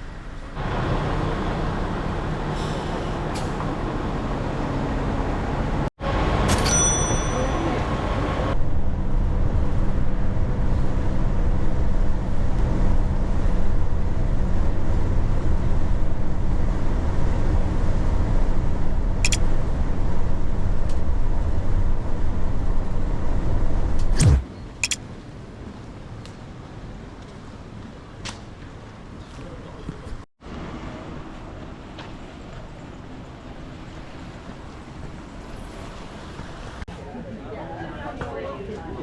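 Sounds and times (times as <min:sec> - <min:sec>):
moving vehicle rumble: 0:00.0 - 0:37.1.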